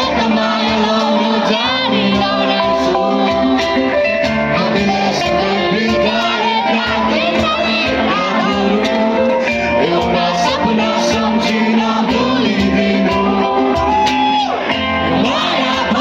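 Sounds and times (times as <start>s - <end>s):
band music with singer: 0.0s - 16.0s.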